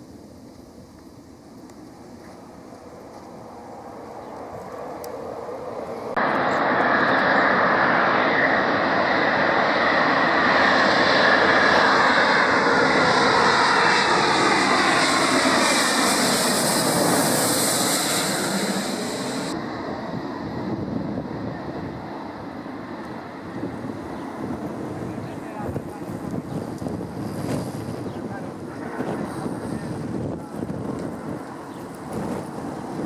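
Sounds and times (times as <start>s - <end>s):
airliner engines passing close by: 0.0s - 33.0s.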